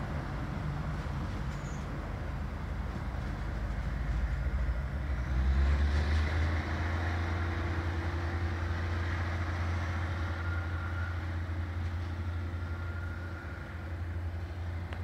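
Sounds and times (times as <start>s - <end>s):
diesel train rumble: 0.0s - 15.0s.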